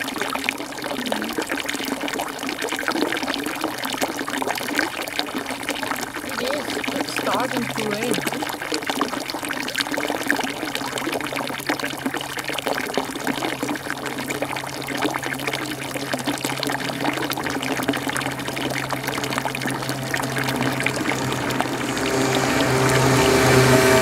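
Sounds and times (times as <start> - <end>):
small water drips: 0.0 - 23.9
water pouring and trickling: 0.0 - 24.0.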